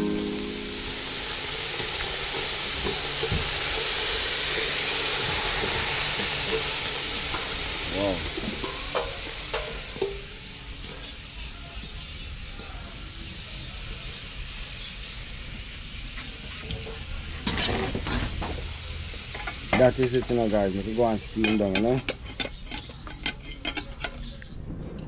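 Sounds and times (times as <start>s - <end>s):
vegetables sizzling in a pot: 0.0s - 24.3s.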